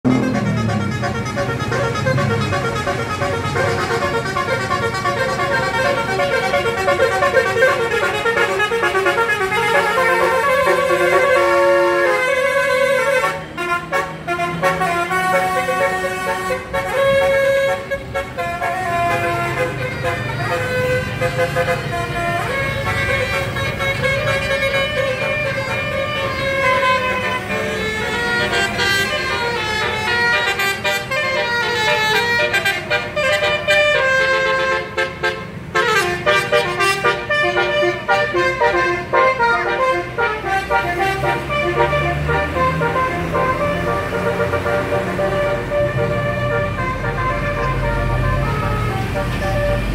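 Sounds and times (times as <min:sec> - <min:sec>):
bus air horn playing a tune: 0:00.0 - 0:49.9.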